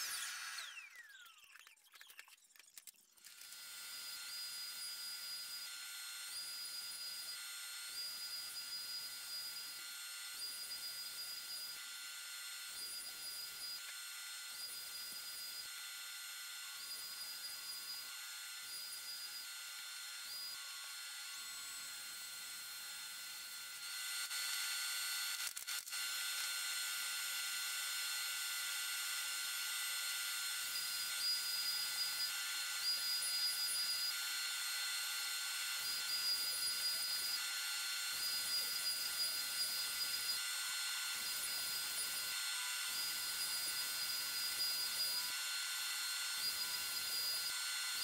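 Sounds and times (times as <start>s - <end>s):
router whining cutting wood: 0.0s - 1.8s, 3.1s - 48.0s.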